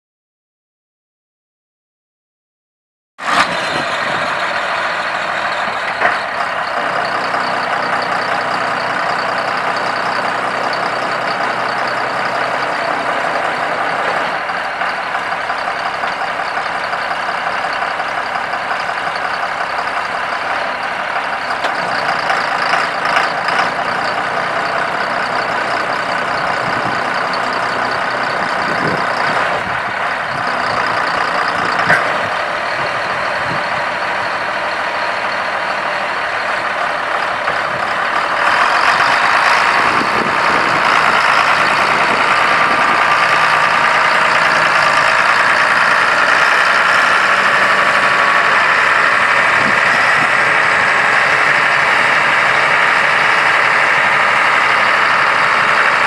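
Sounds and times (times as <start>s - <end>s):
tractor diesel engine running: 3.2s - 56.0s.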